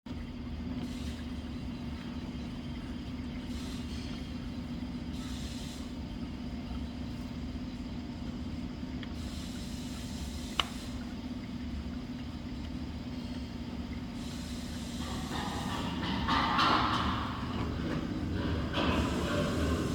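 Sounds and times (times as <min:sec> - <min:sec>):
droning hum: 0:00.4 - 0:19.9.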